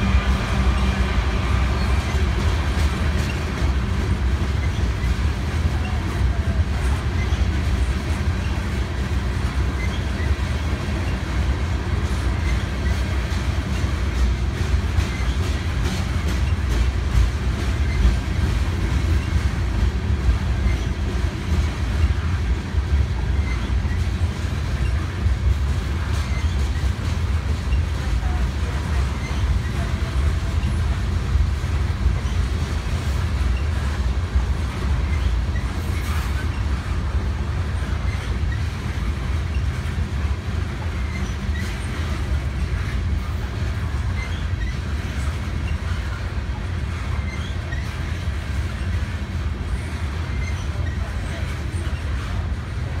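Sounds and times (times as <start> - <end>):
freight train rumbling past: 0.0 - 53.0
wheels clicking over rail joints: 0.0 - 53.0.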